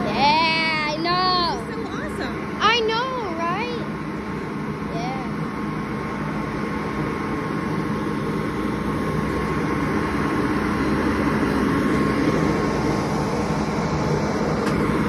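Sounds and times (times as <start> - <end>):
constant hum: 0.0 - 15.0
diesel locomotive engine drone: 0.0 - 15.0.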